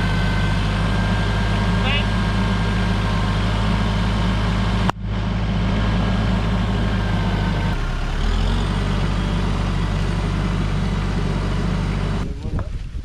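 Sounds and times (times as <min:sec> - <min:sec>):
heavy engine running: 0:00.0 - 0:12.5.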